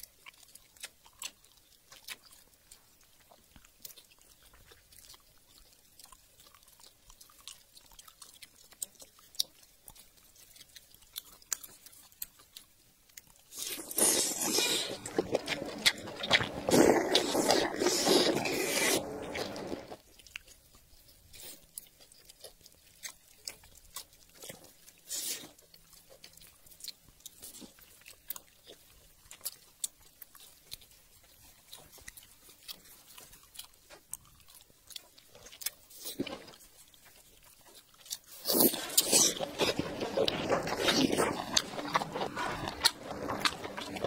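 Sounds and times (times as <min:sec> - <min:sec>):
wet chewing: 0:00.0 - 0:44.0.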